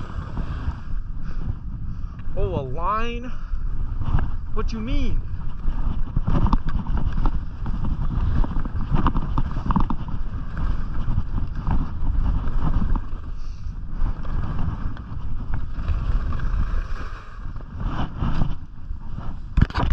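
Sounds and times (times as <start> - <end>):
skis sliding over snow: 0.0 - 1.5, 3.8 - 19.9
wind noise on microphone: 0.0 - 19.9.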